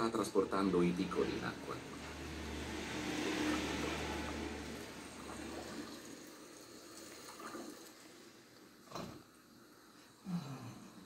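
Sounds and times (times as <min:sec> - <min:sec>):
soft rushing water noise: 0:00.0 - 0:10.2.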